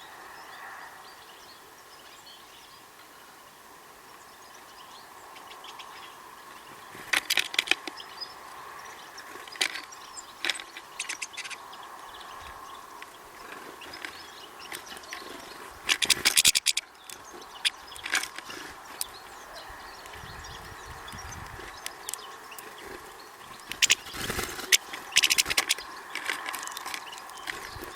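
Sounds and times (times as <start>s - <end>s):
birds pecking at feeder: 5.4s - 27.9s.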